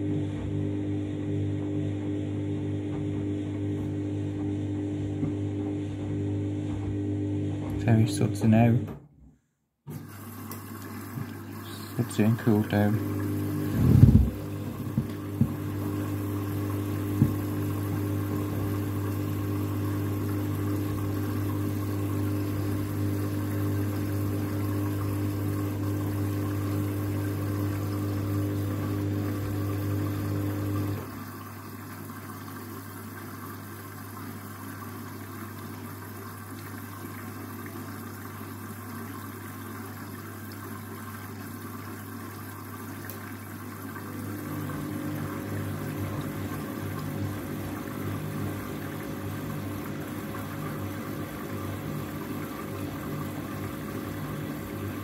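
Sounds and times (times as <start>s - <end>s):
electrical hum: 10.1s - 55.0s.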